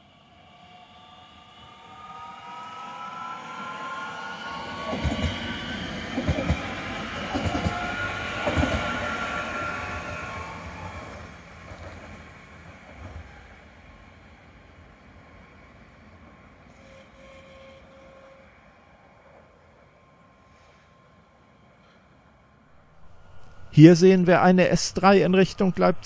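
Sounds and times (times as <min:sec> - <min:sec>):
electric train whine: 0:00.0 - 0:26.0.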